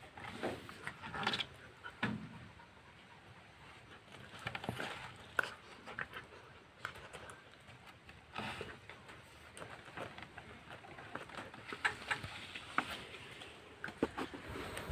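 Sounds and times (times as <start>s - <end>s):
dogs scuffling and mouthing: 0.0s - 14.9s.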